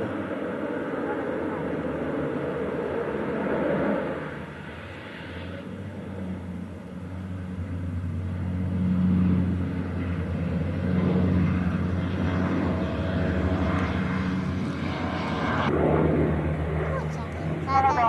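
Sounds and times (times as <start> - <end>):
propeller aircraft engines droning: 0.0 - 18.0.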